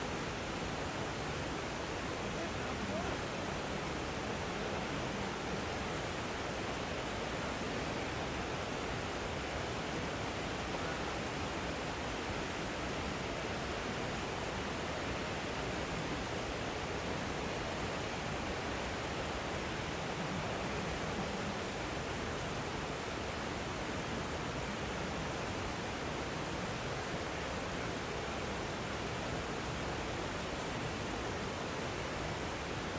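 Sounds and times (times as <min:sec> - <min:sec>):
rushing river water: 0:00.0 - 0:32.9.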